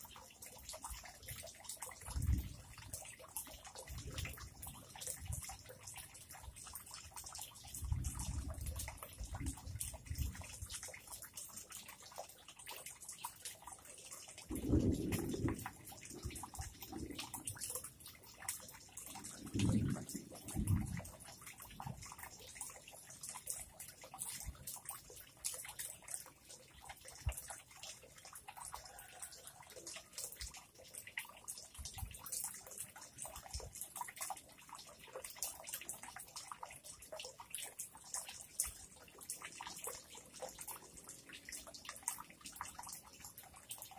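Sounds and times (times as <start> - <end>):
water dripping into a pond: 0.0 - 43.9.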